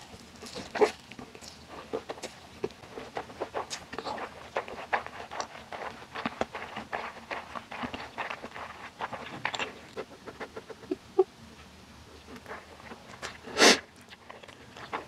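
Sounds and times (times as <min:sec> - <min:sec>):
chewing noodles: 0:00.0 - 0:11.0, 0:12.2 - 0:15.0.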